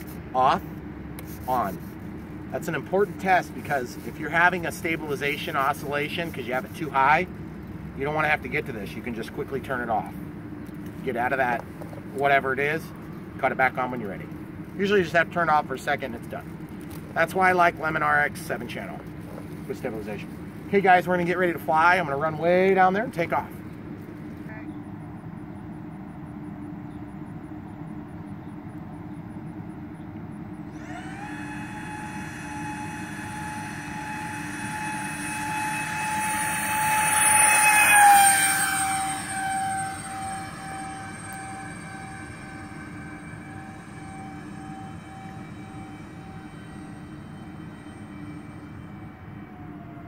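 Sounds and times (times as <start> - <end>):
electric fan model plane whining: 0.0 - 50.0.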